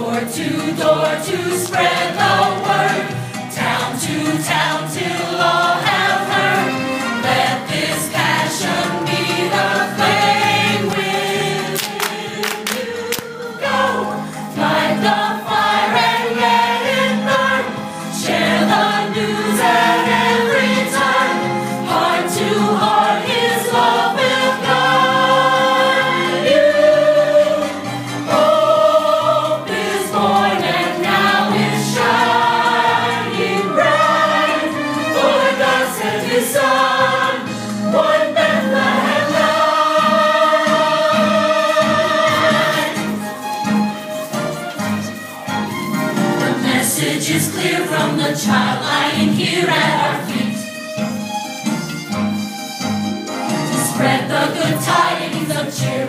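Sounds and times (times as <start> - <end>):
choir singing gospel song: 0.0 - 43.4, 46.2 - 50.7, 53.7 - 56.0
instrumental accompaniment: 0.0 - 56.0.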